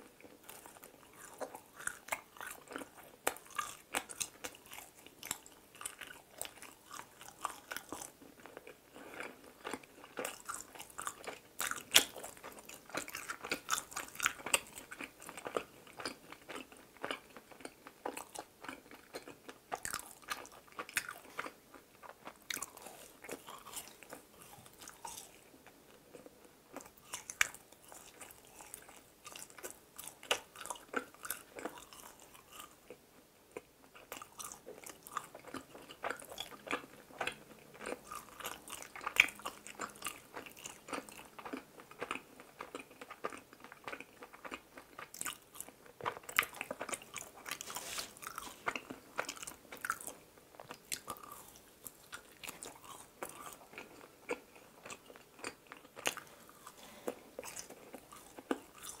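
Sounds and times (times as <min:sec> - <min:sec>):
chewing with smacks and crunches: 0:00.0 - 0:59.0.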